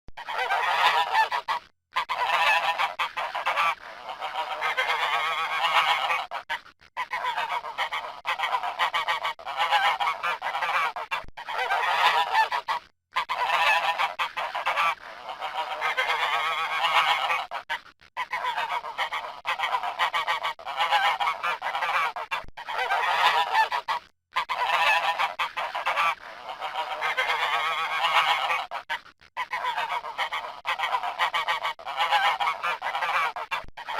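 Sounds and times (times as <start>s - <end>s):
geese honking: 0.3s - 33.9s.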